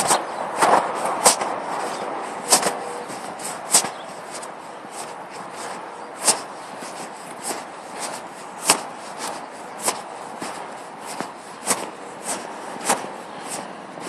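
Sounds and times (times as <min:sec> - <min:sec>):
footsteps on asphalt: 0:00.0 - 0:14.0.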